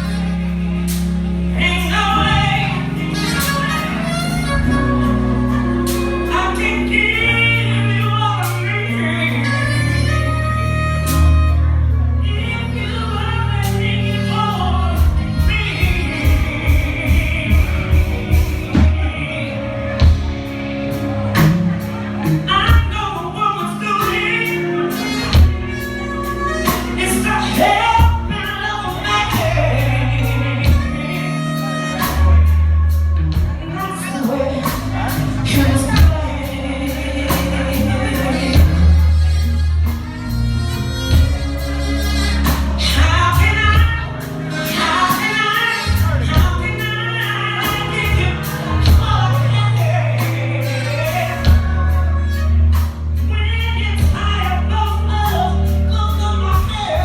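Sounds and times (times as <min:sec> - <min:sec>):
bass line: 0:00.0 - 0:57.0
live band playing: 0:00.0 - 0:57.0
person singing: 0:00.0 - 0:57.0.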